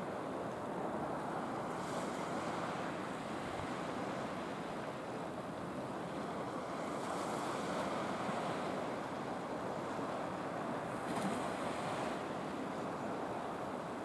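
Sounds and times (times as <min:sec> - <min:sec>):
sea surf washing on shore: 0:00.0 - 0:14.0.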